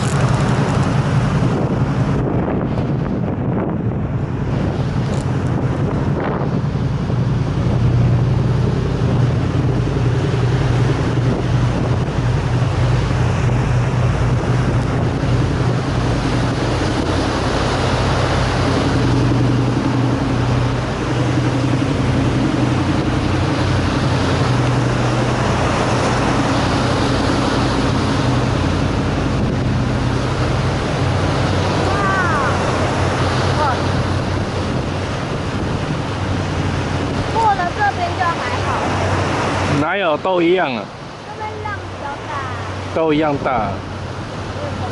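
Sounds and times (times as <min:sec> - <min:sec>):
low engine hum: 0:00.0 - 0:44.9
rough sea surf: 0:00.0 - 0:44.9
strong wind: 0:00.0 - 0:44.9.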